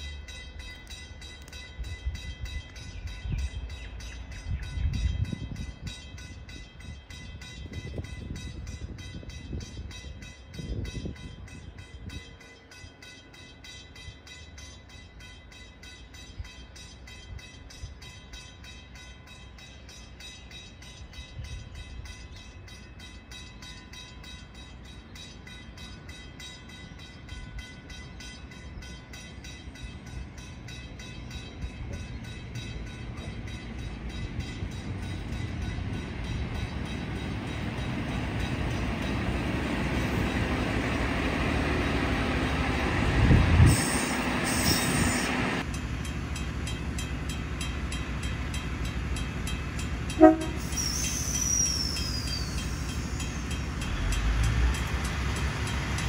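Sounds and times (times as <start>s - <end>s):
diesel train passing: 0.0s - 56.0s.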